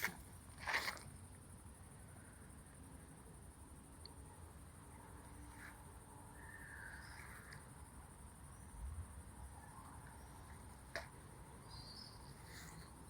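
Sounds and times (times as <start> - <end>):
insect chirps: 0.0 - 13.0
night insects chirring: 0.0 - 13.0.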